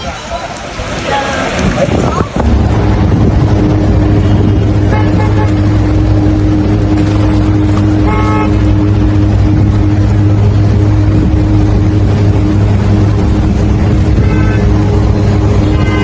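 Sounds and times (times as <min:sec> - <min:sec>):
vehicle engine humming: 0:00.0 - 0:16.0
horn tooting: 0:02.7 - 0:16.0.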